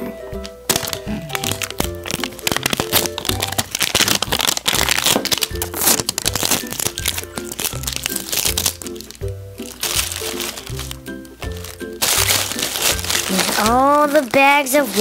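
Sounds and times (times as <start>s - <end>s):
plastic wrapping crinkling: 0.7s - 15.0s.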